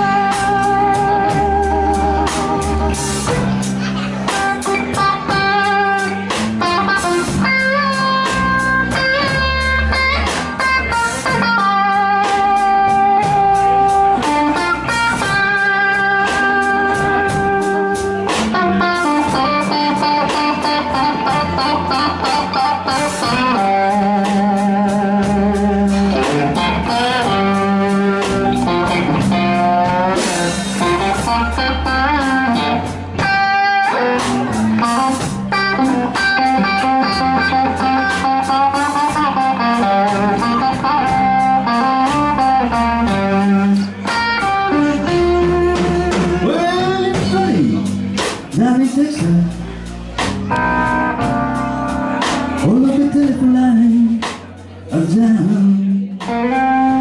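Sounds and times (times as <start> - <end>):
drums: 0.0 - 57.0
electric bass: 0.0 - 57.0
electric guitar lead: 0.0 - 57.0.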